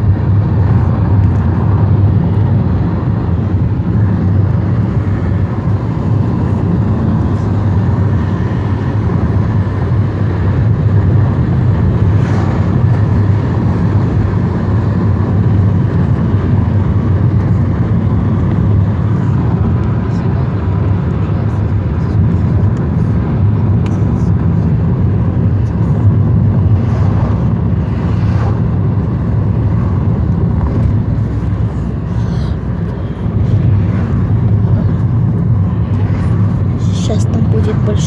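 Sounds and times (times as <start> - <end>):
vehicle engine and road rumble: 0.0 - 38.0.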